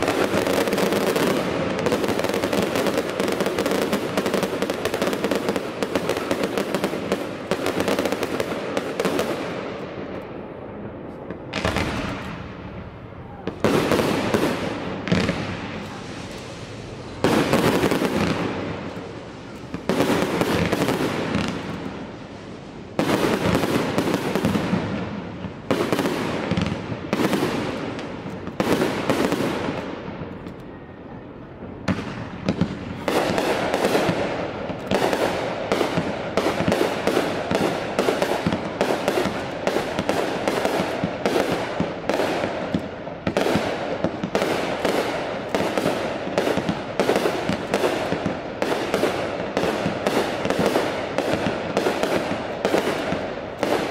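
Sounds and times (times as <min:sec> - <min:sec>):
crackling firework tails: 0:00.0 - 0:53.9.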